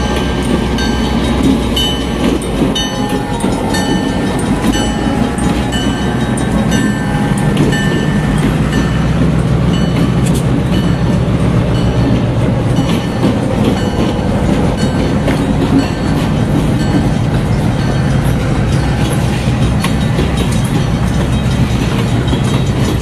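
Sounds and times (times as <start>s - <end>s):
diesel locomotive drone: 0.0s - 23.0s
wheels clicking over rail joints: 0.0s - 23.0s.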